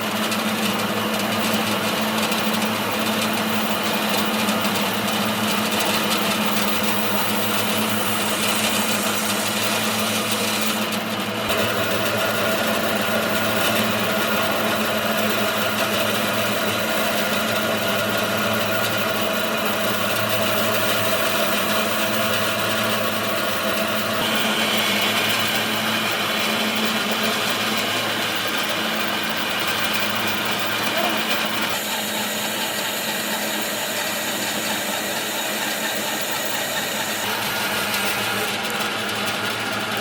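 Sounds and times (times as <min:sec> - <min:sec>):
power tool motor humming: 0:00.0 - 0:40.0.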